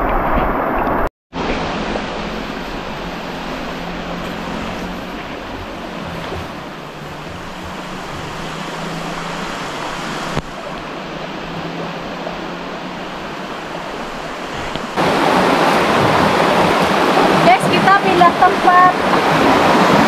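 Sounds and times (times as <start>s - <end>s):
river stream flowing over rocks: 0.0s - 20.0s
steady rushing outdoor noise: 0.0s - 20.0s.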